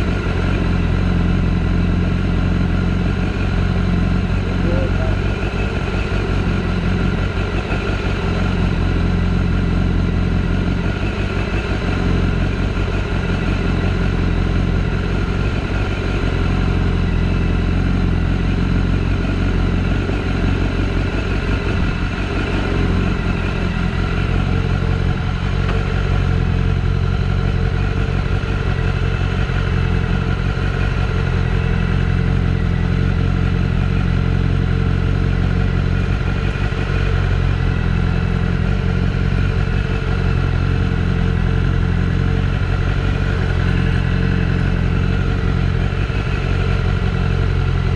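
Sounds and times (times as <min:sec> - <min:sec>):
motorcycle engine idling: 0:00.0 - 0:47.9.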